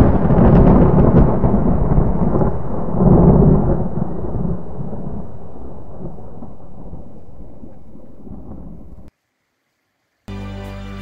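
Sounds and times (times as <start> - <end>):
thunder rumble: 0.0 - 9.1.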